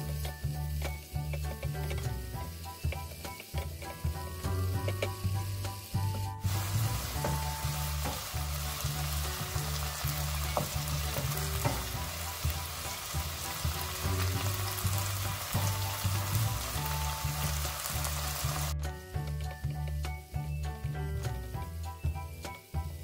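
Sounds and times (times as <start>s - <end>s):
vegetables sizzling in wok: 0.0s - 20.6s.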